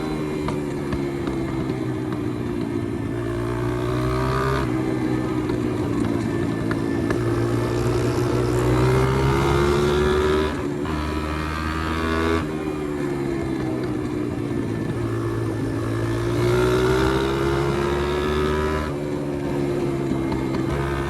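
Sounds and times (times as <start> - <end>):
small motorcycle engine revving: 0.0 - 21.0.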